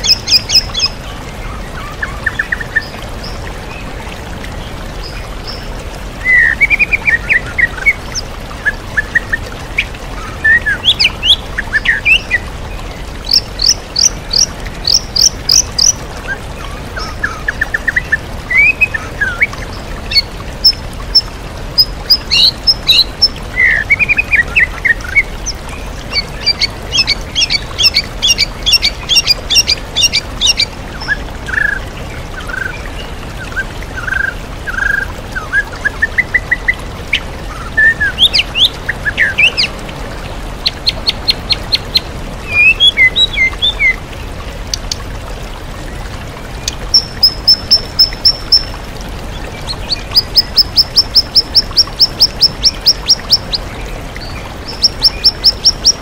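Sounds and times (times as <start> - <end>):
songbird singing: 0.0 - 39.8, 40.6 - 44.0, 46.6 - 56.0
waterfall rushing: 0.0 - 56.0.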